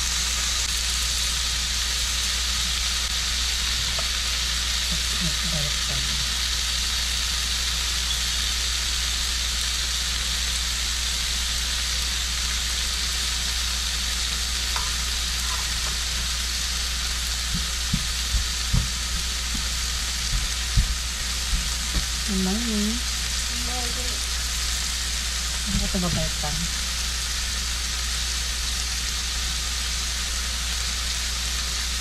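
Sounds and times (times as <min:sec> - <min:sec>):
batter sizzling in a pan: 0:00.0 - 0:32.0.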